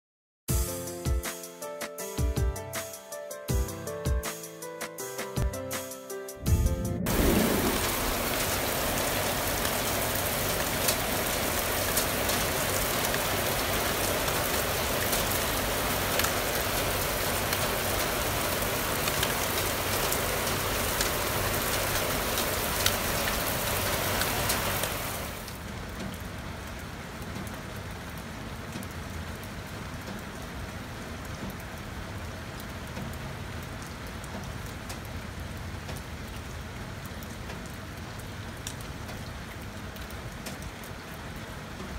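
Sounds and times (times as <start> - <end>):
heavy rain pouring: 6.4 - 41.9
rain drop hits: 6.4 - 41.9.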